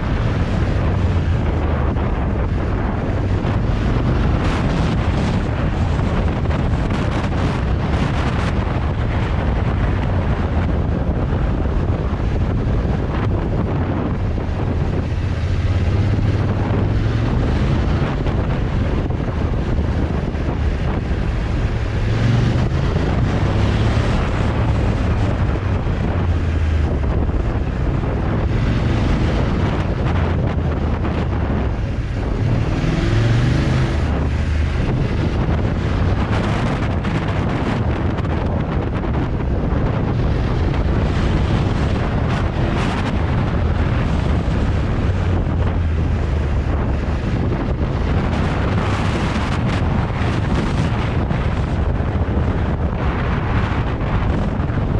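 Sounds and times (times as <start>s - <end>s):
motorcycle engine revving: 0.0s - 54.8s
wind buffeting microphone: 0.0s - 54.9s.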